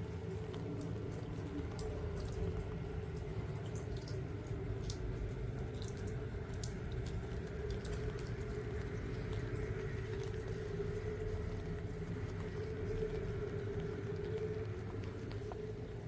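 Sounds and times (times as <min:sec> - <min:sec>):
low rumble and hum: 0:00.0 - 0:16.0
raindrops ticking: 0:00.0 - 0:16.0.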